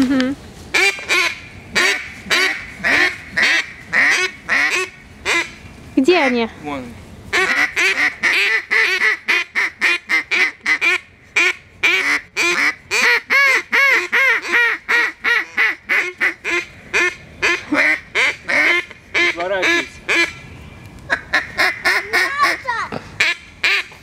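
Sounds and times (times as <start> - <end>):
duck call quacks: 0.7 - 5.6, 7.3 - 20.4, 21.1 - 23.9.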